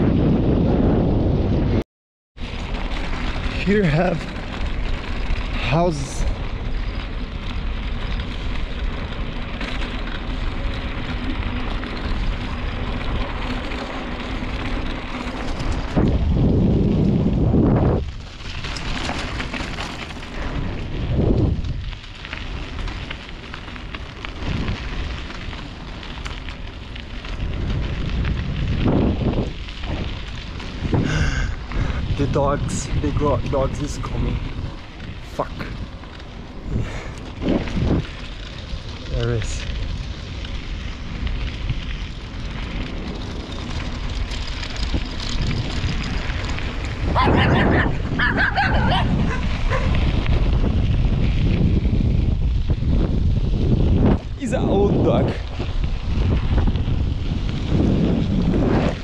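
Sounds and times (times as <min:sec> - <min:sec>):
bicycle tyre road noise: 0:00.0 - 0:01.8, 0:02.4 - 0:59.0
wind gusting on microphone: 0:00.0 - 0:01.8, 0:02.4 - 0:59.0.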